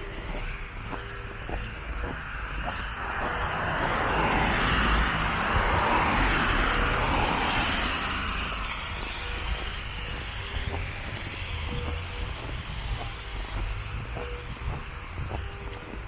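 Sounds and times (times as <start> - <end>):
road vehicle passing by: 0.0 - 16.0.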